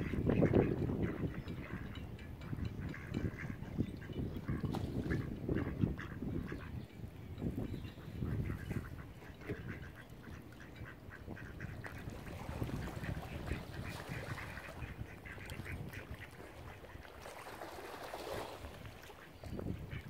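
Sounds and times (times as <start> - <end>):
ducks quacking: 0.0 - 6.8, 7.9 - 20.0.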